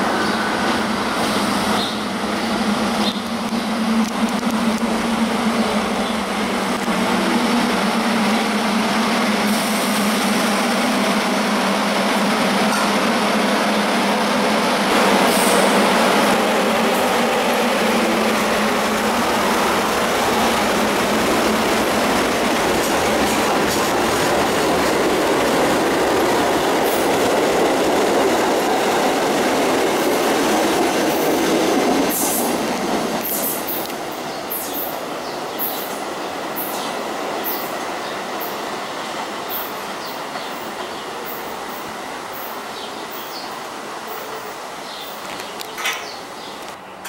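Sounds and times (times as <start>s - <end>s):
subway train passing: 0.0s - 47.0s.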